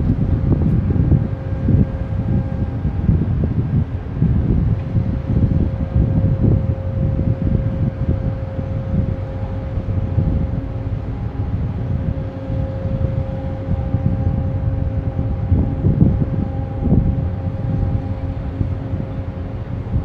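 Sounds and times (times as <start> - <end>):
ship low rumble and hum: 0.0 - 20.0
wind buffeting microphone: 0.0 - 20.0.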